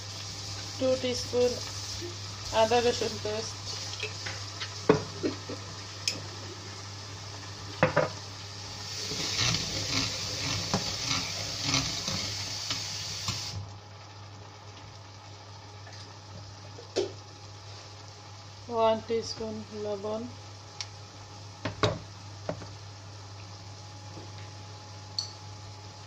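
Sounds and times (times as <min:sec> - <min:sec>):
onion sizzling in oil: 0:00.0 - 0:26.0.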